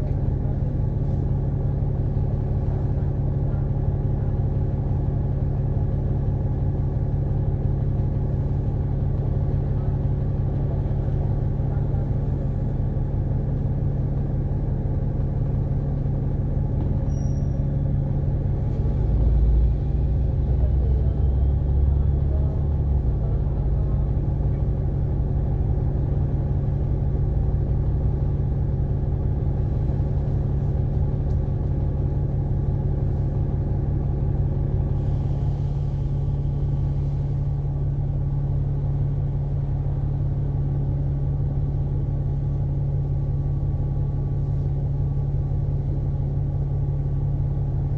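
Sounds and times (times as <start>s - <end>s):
bus engine hum: 0.0s - 47.9s
road noise: 0.0s - 47.9s.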